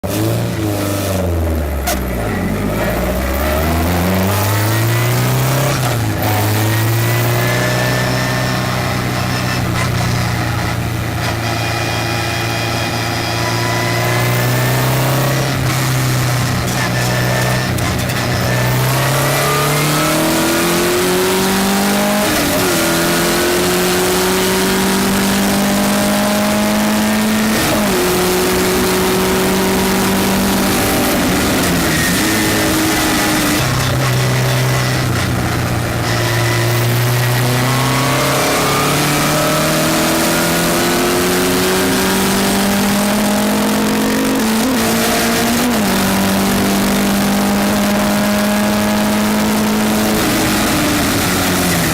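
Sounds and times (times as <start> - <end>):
race car engine at full throttle: 0.0 - 51.9.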